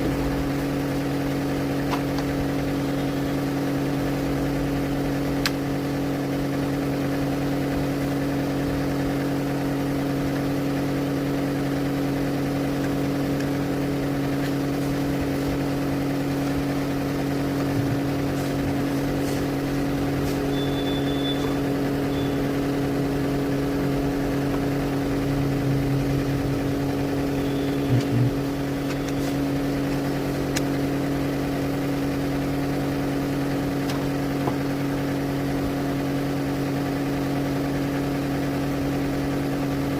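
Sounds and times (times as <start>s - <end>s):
machine humming: 0.0s - 37.2s.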